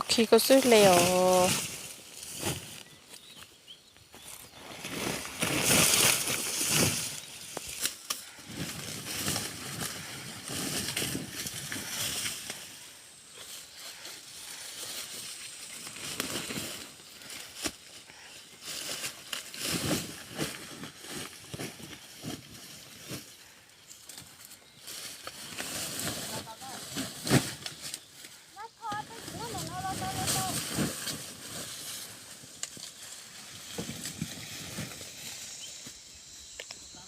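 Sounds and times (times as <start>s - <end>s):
dry plants rustling and crunching: 0.0s - 37.0s.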